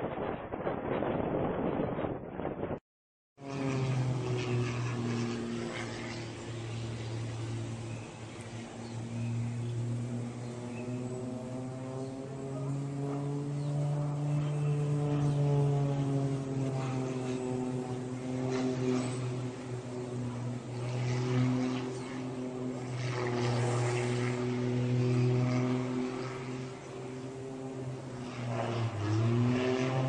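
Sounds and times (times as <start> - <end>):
propeller plane engine droning: 0.0 - 2.8, 3.4 - 30.0.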